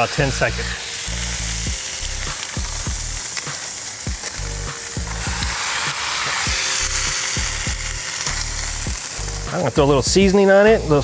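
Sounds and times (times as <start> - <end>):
burger patty sizzling on griddle: 0.0 - 11.0
background music beat: 0.4 - 11.0.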